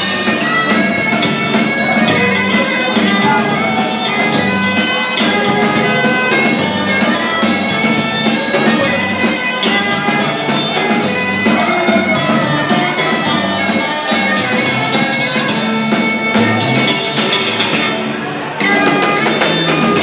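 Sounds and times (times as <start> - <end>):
live band music with bass guitar: 0.0 - 20.0.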